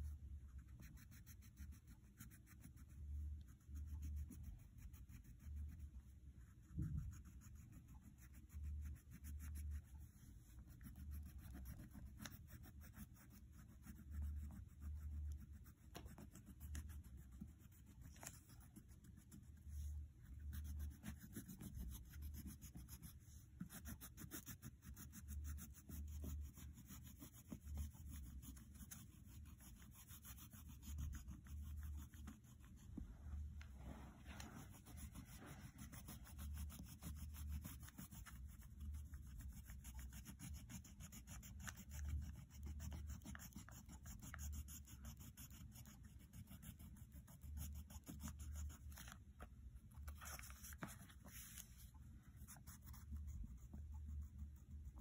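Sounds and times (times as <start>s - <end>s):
crayon scribbling on paper: 0.0s - 32.9s, 34.6s - 49.2s, 50.1s - 55.0s.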